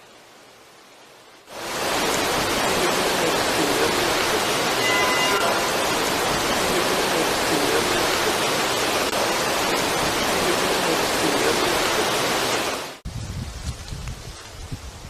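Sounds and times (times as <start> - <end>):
steady rushing hiss: 0.0 - 15.0.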